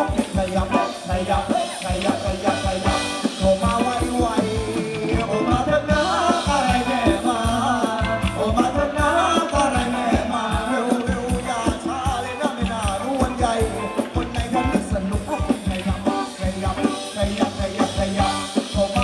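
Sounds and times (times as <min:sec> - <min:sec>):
fast drum beat: 0:00.0 - 0:19.0
person singing: 0:00.0 - 0:19.0.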